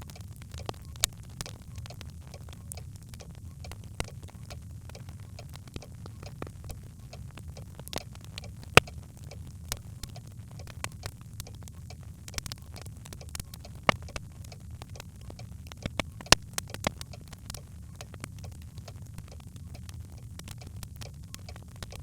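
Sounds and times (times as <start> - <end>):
fire crackling in fireplace: 0.0 - 22.0
low fire rumble: 0.0 - 22.0.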